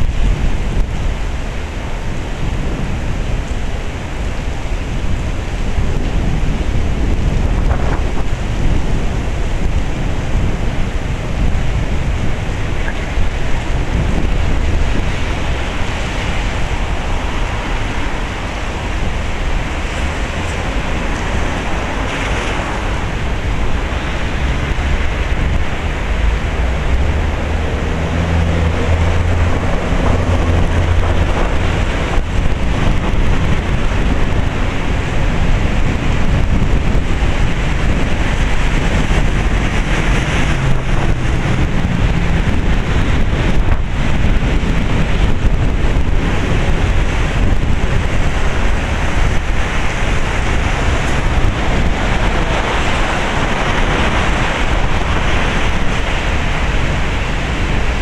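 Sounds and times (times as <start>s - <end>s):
heavy rain pouring: 0.0s - 58.0s
low rumble on microphone: 0.0s - 58.0s
wind: 0.0s - 58.0s.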